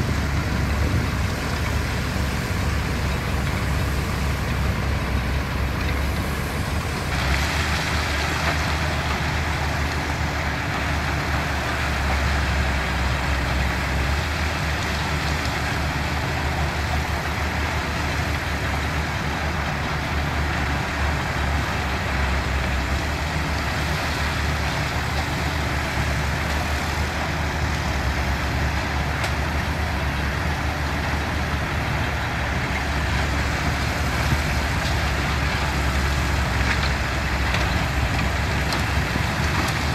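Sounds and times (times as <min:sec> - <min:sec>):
diesel engines droning: 0:00.0 - 0:39.9.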